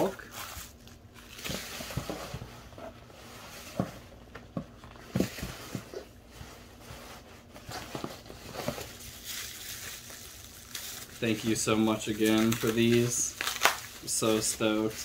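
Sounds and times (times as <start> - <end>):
plastic wrap rustling: 0.0 - 15.0.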